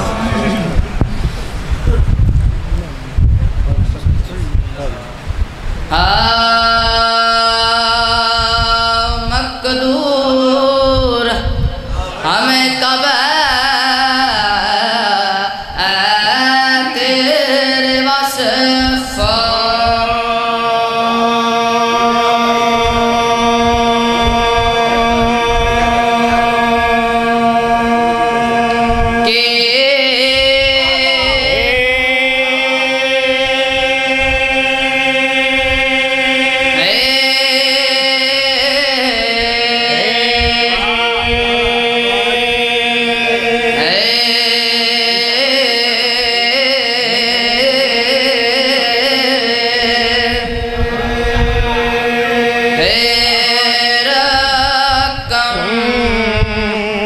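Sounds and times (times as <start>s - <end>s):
boy chanting over loudspeaker: 0.0s - 1.0s, 5.9s - 57.0s.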